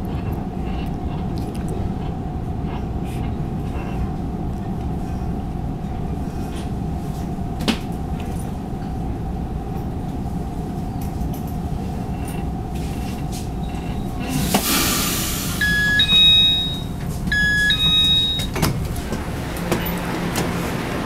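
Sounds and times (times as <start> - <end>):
train interior rumbling hum: 0.0 - 21.0.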